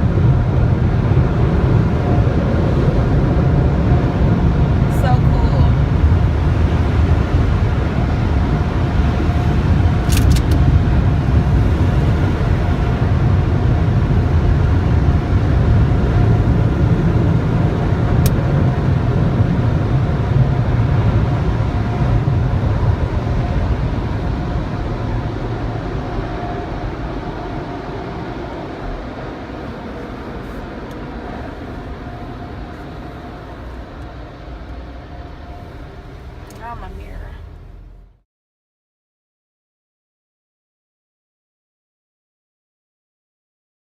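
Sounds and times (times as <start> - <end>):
car wash dryers blowing air: 0.0 - 38.1.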